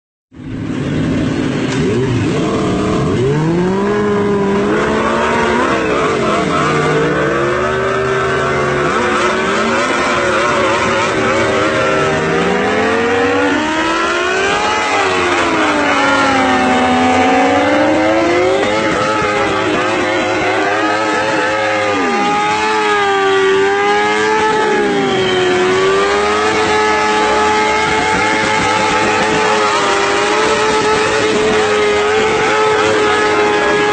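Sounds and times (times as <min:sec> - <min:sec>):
motorcycle engines revving: 0:00.4 - 0:33.9.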